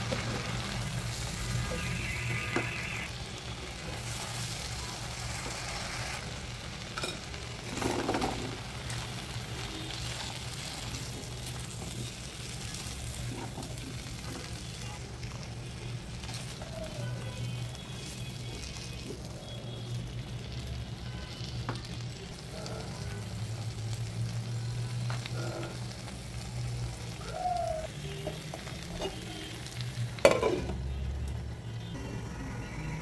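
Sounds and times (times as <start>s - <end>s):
potatoes sizzling in oil: 0.0s - 33.0s.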